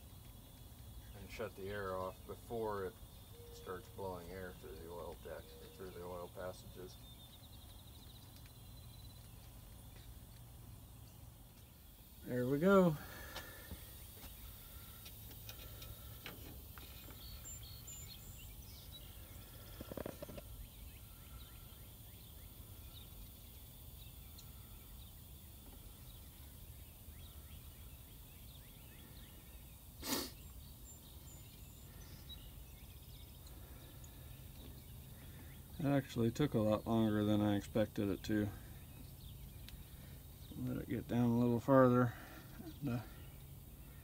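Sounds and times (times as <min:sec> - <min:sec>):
faint bird chirps: 0:01.0 - 0:10.2, 0:10.9 - 0:44.0.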